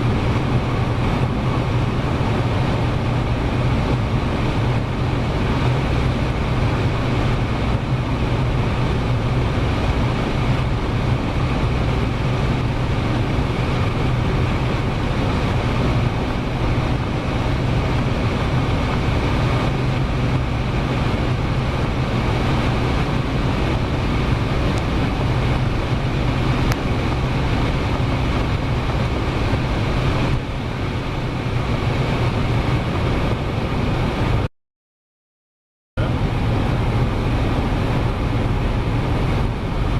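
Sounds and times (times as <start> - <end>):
car engine drone at cruise: 0.0 - 34.5, 36.0 - 39.9
road and wind noise: 0.0 - 34.5, 36.0 - 39.9.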